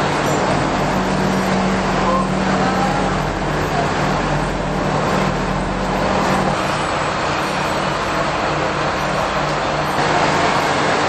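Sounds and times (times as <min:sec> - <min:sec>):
diesel railcar engine idling: 0:00.0 - 0:11.0.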